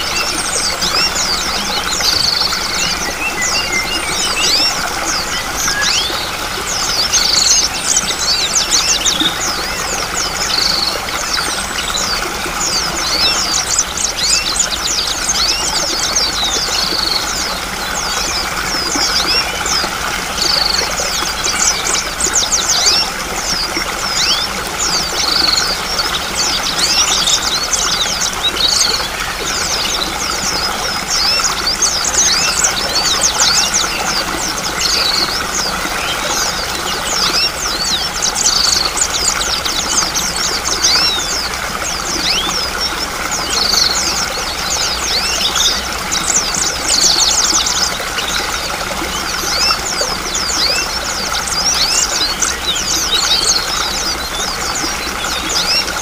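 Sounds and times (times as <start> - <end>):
small birds chirping: 0.0 - 56.0
stream flowing: 0.0 - 56.0.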